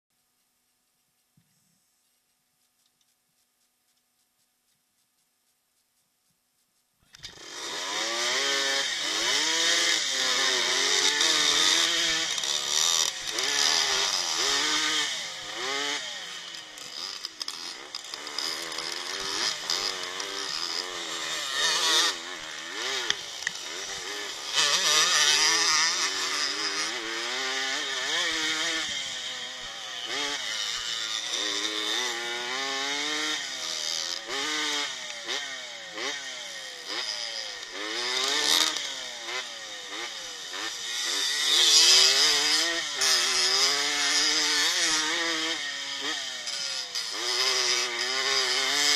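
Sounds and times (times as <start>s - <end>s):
dirt bike engine revving: 7.2s - 48.9s.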